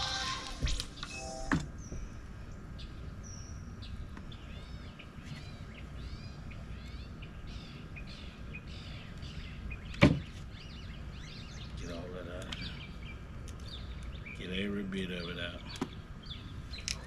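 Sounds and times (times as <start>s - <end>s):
low outdoor rumble: 0.0s - 17.0s
songbird chirping: 0.0s - 17.0s.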